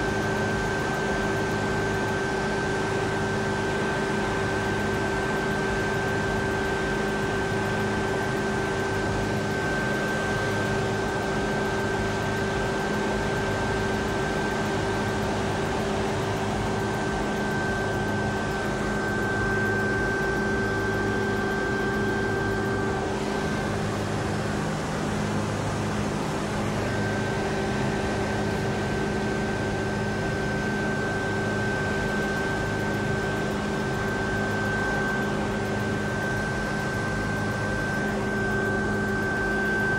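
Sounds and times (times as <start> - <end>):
mechanical drone with high whine: 0.0 - 39.9.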